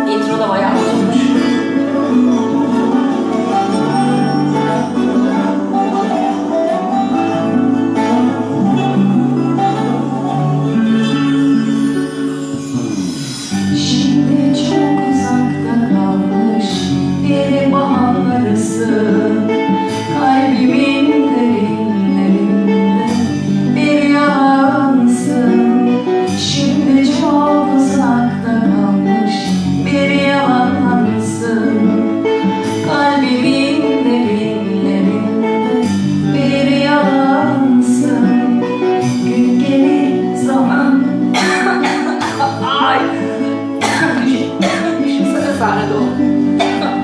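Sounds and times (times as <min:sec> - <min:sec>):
woman singing: 0:00.0 - 0:12.5, 0:13.5 - 0:47.0
plucked guitar: 0:00.0 - 0:47.0.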